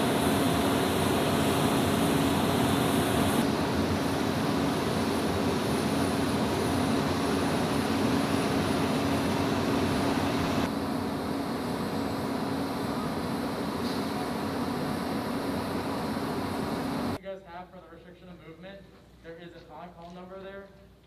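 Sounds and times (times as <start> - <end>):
jet engines running: 0.0 - 17.2.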